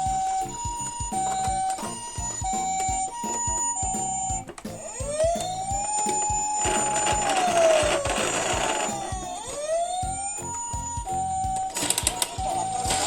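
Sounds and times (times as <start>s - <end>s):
steady beat: 0.0s - 13.0s
two-tone toy siren: 0.0s - 13.0s
wailing toy siren: 0.0s - 13.0s.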